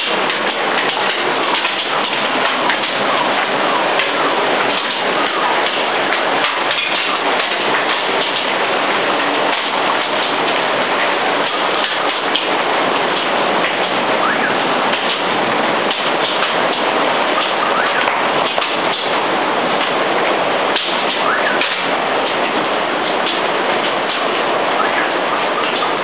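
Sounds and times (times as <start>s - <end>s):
torrential rain hissing: 0.0s - 26.0s.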